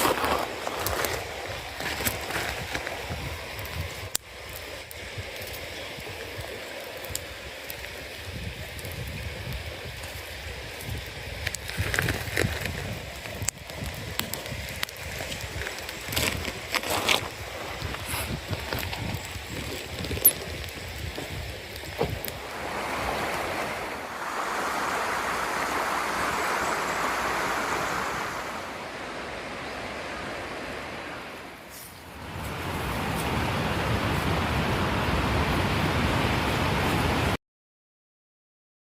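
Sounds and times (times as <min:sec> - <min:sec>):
bonfire crackling: 0:00.0 - 0:37.4
fire rushing hiss: 0:00.0 - 0:37.4.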